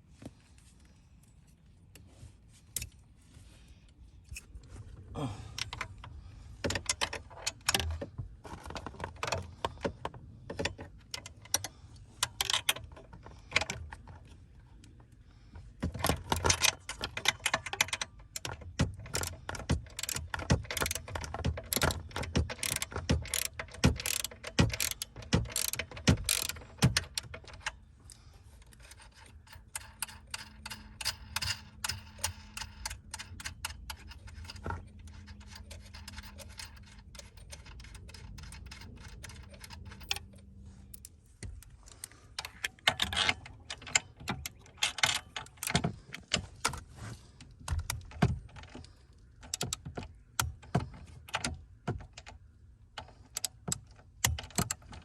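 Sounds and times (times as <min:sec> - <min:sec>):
irregular mechanical clicks and rattles: 0:05.5 - 0:55.0.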